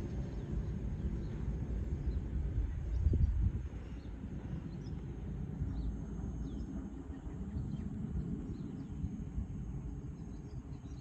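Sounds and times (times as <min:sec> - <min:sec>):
distant fighter jets rumbling: 0:00.0 - 0:11.0.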